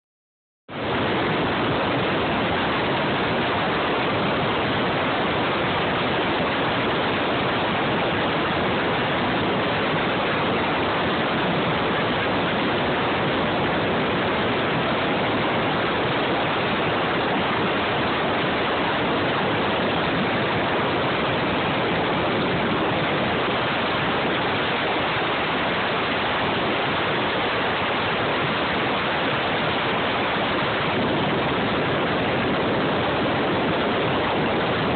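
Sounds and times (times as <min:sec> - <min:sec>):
helicopter cabin noise: 0:00.8 - 0:34.9
wind rushing: 0:00.8 - 0:34.9.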